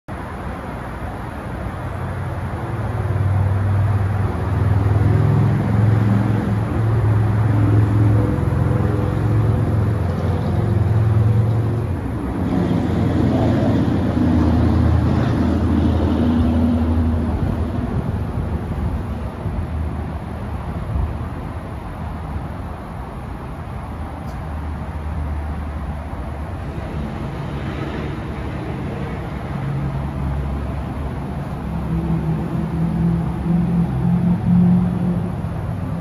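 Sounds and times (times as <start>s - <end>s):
vehicle engine humming: 0.1s - 36.0s.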